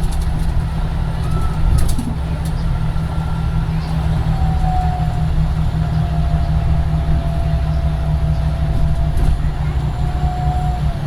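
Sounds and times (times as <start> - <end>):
bus engine drone with whine: 0.0 - 11.0.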